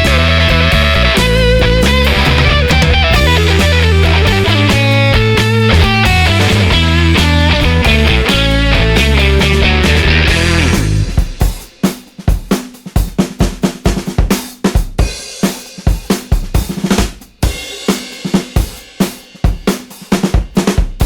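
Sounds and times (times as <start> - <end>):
drum beat with cymbals: 0.0 - 21.0.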